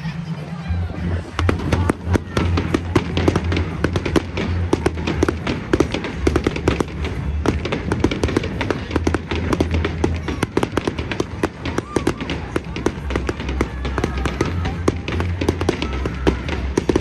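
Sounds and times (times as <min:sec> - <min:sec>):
firework bangs and crackles: 0:00.3 - 0:17.0.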